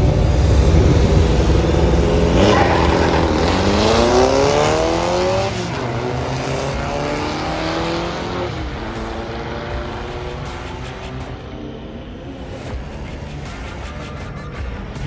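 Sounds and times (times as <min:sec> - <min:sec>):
car engine accelerating hard: 0:00.0 - 0:13.6.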